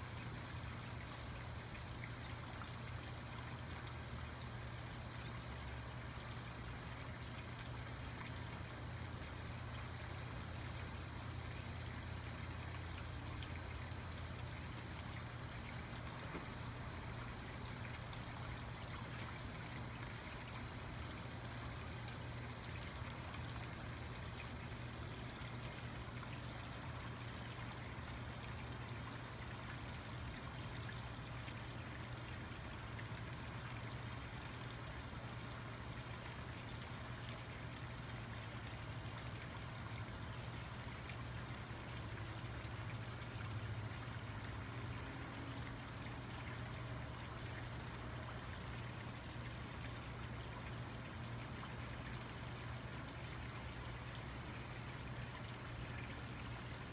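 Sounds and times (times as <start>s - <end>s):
water spilling over small waterfall: 0.0s - 56.9s.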